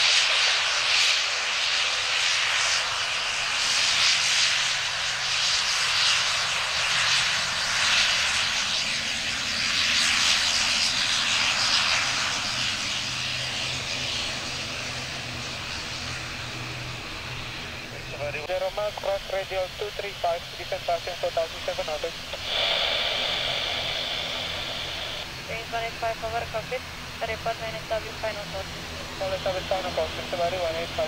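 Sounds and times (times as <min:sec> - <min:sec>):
turboprop engines droning: 0:00.0 - 0:31.0
propeller hiss: 0:02.4 - 0:31.0.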